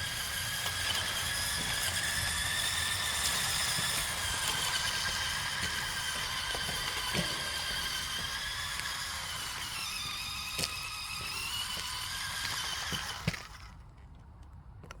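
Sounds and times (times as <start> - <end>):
toy car electric motor whining: 0.0 - 13.9.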